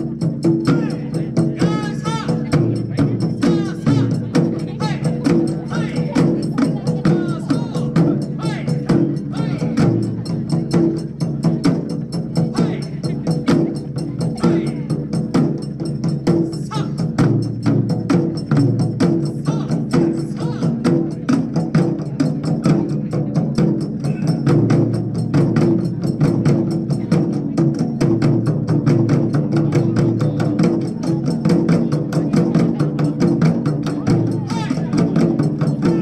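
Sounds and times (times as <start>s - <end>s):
taiko drums beating fast: 0.0s - 36.0s.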